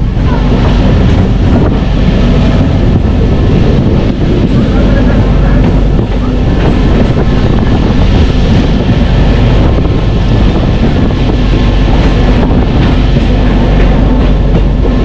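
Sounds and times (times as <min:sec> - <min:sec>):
train running rumble: 0:00.0 - 0:15.0
wind buffeting microphone: 0:00.0 - 0:15.0.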